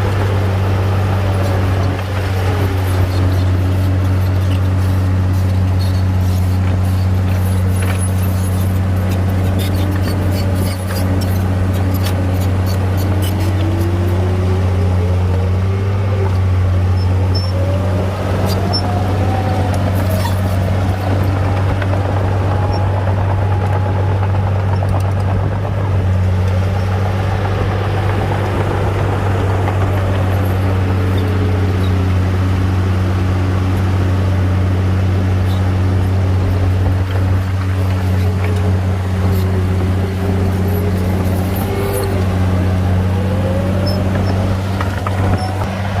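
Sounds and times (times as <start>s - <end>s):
bulldozer diesel engine drone: 0.0s - 46.0s.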